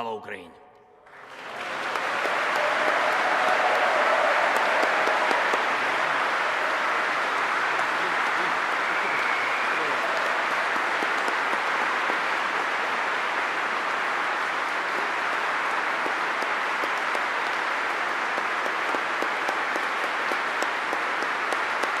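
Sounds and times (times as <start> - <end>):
large audience applauding: 1.1 - 22.0.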